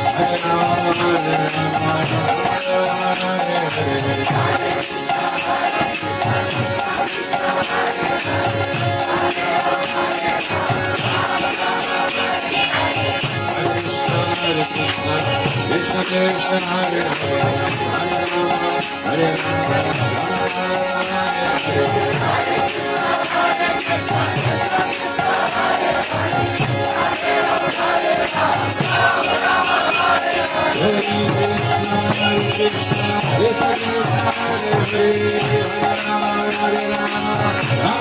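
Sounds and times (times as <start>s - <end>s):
harmonium chords: 0.0s - 38.0s.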